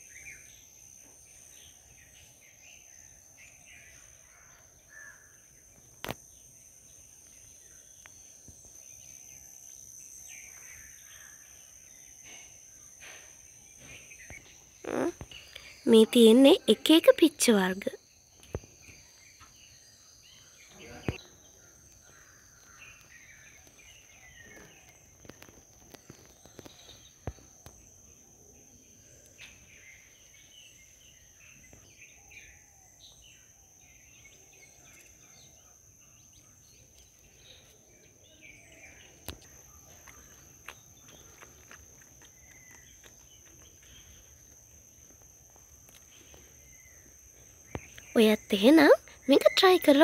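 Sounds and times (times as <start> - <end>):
high-pitched insect drone: 4.8 - 19.2, 20.7 - 50.0
bird chirps: 6.9 - 27.8, 28.8 - 50.0.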